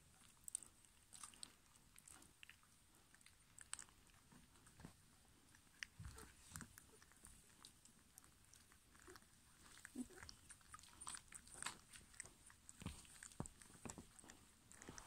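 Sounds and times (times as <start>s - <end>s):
puppies play-biting: 0.0s - 15.0s.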